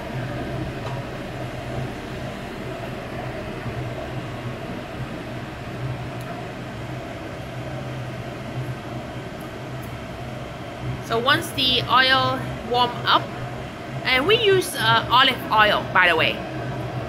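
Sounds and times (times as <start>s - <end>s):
kitchen exhaust fan running: 0.0s - 17.0s.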